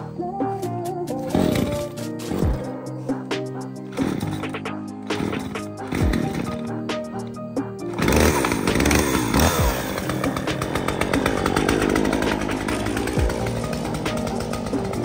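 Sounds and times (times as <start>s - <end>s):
chainsaw revving and cutting wood: 0.0s - 15.0s.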